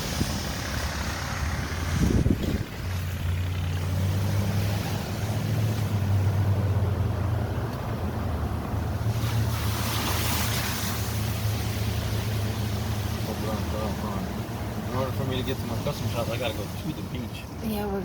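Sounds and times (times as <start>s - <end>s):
car engine and road hum: 0.0s - 18.0s.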